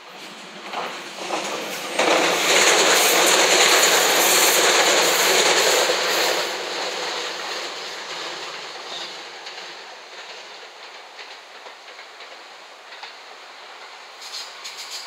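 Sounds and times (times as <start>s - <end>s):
train passing with wheel clatter: 0.0s - 15.0s.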